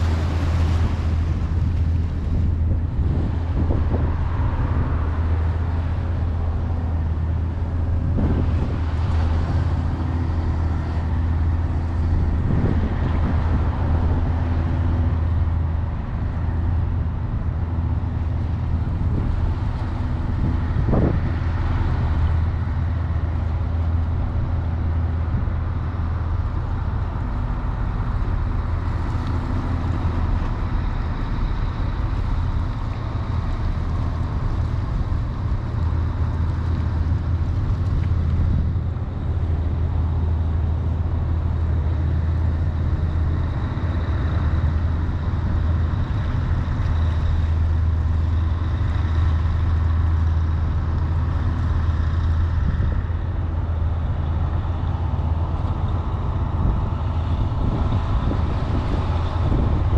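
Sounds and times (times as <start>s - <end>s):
engine running low hum: 0.0s - 59.9s.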